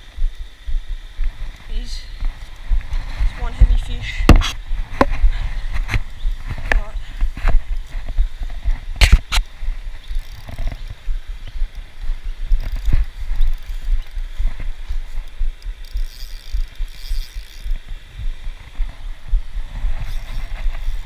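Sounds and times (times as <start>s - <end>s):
microphone handling rumble: 0.0s - 15.9s, 17.6s - 21.0s
faint ticks: 0.0s - 21.0s.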